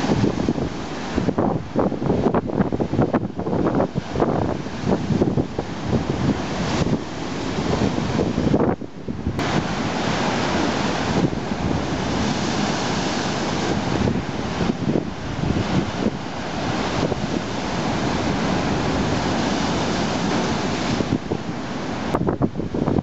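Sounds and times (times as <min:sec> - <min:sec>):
waves breaking over rocks: 0:00.0 - 0:23.0
wind buffeting microphone: 0:00.0 - 0:23.0.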